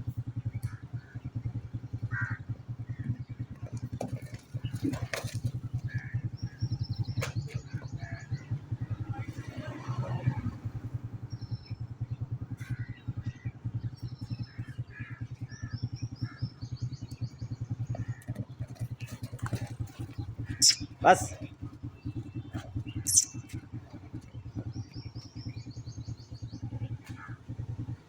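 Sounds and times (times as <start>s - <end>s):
engine running steadily: 0.0s - 28.0s
small birds chirping: 0.2s - 28.0s.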